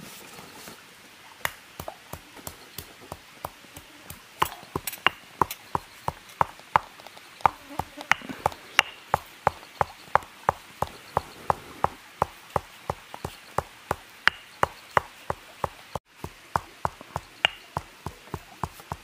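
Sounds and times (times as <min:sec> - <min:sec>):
stone pestle pounding in mortar: 0:01.8 - 0:11.3, 0:12.2 - 0:15.8, 0:16.5 - 0:19.0.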